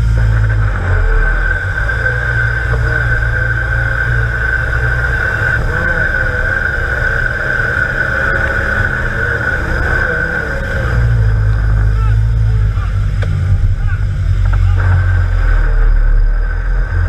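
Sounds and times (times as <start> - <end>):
steady high whine: 0.0 - 17.0
vehicle engine running: 0.0 - 17.0.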